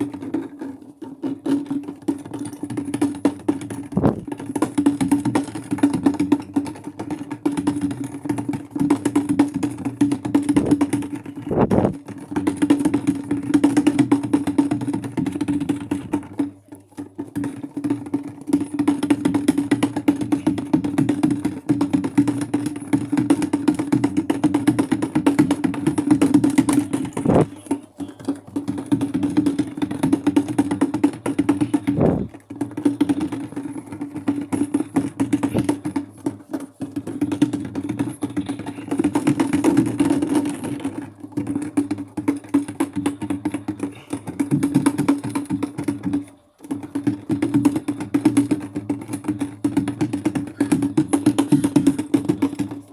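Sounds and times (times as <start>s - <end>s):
washing machine running: 0.0s - 52.9s.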